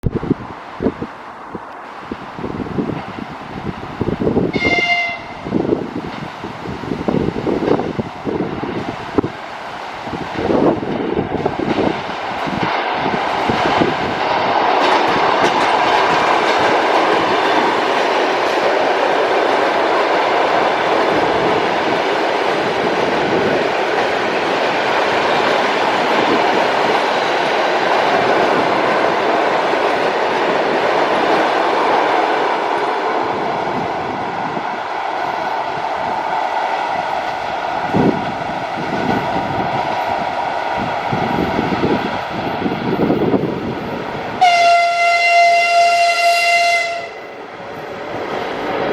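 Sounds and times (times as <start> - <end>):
electric train passing: 0.0 - 48.9.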